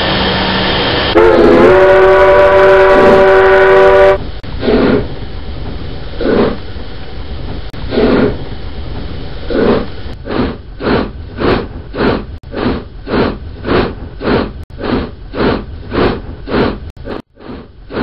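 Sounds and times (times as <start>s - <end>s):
steam locomotive exhaust chuffing: 0.0s - 18.0s.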